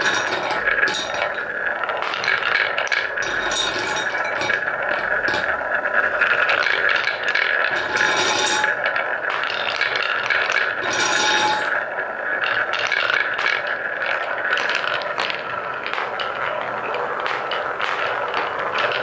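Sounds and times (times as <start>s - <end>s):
wooden balls clicking: 0.0s - 19.0s
wooden balls rolling in a bowl: 0.0s - 19.0s.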